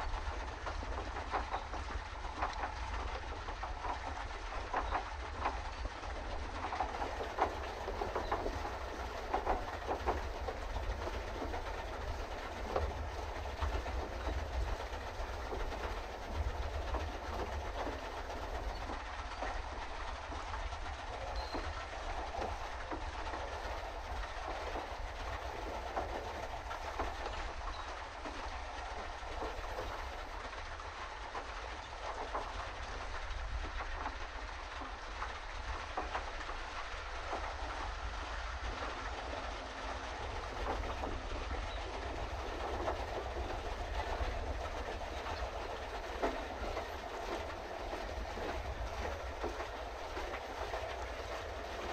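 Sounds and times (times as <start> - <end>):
constant low rumble: 0.0 - 51.9
paddle wheel churning and rattling: 0.0 - 51.9.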